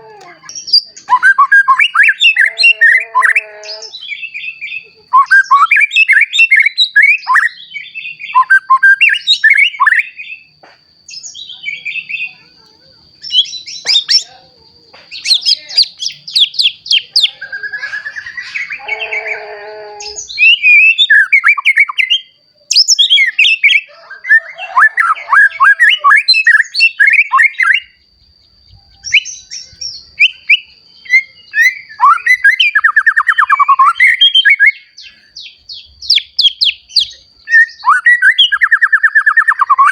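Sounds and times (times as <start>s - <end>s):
bird singing whistles and trills: 0.2s - 10.5s, 13.2s - 14.3s, 15.1s - 39.9s.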